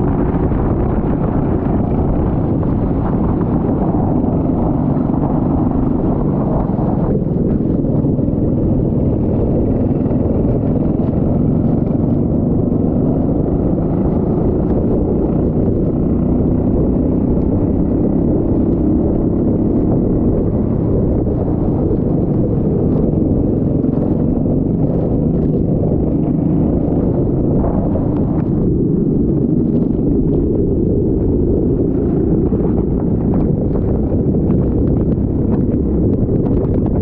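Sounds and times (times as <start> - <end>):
kart engine drone: 0.0 - 37.0
wind noise on microphone: 0.0 - 37.0.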